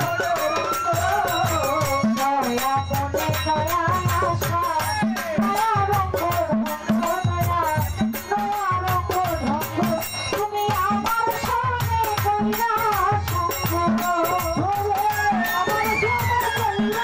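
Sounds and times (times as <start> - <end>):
drums: 0.0 - 17.0
jingling percussion: 0.0 - 17.0
woman singing: 0.0 - 17.0.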